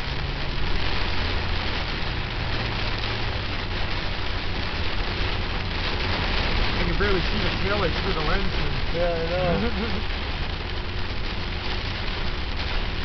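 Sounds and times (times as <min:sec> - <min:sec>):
engine and road drone: 0:00.0 - 0:13.0
heavy rain on vehicle: 0:00.0 - 0:13.0.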